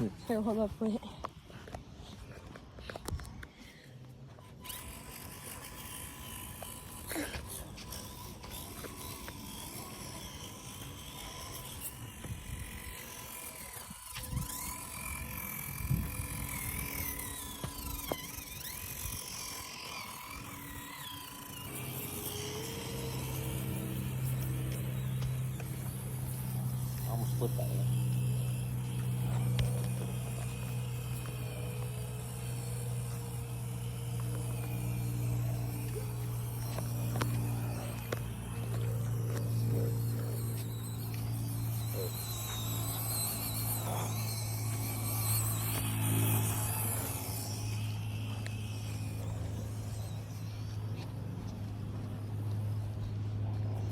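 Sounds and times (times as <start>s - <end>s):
small electric motors whining: 0.0s - 53.9s
steady low hum: 0.0s - 53.9s.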